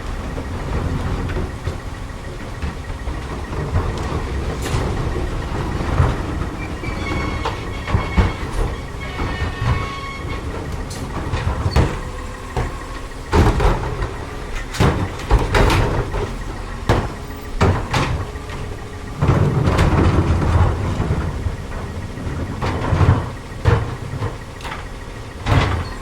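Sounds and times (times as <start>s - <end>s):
garbage truck engine running: 0.0s - 26.0s
loud metallic bangs and clunks: 0.4s - 26.0s.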